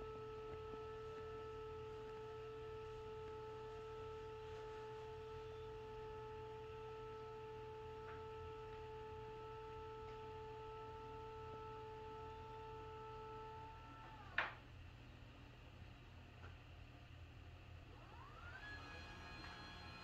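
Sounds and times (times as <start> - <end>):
wheelchair seat motor whining: 0.0 - 14.6, 17.9 - 20.0.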